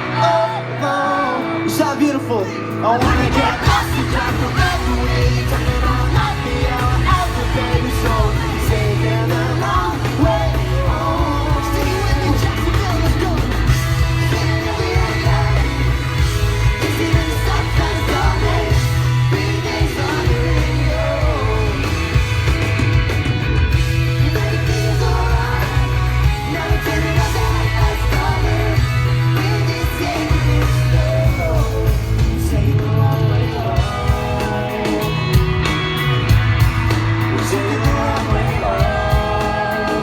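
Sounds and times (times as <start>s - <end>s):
person singing and yelling: 0.0s - 22.5s, 23.8s - 40.0s
rock band playing live: 0.0s - 40.0s
heavy bass: 2.8s - 40.0s.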